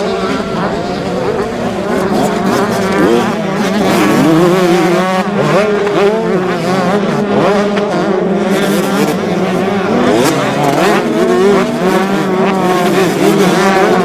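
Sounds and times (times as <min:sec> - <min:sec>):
drone of distant bikes: 0:00.0 - 0:14.0
motocross bike engines revving: 0:00.0 - 0:14.0.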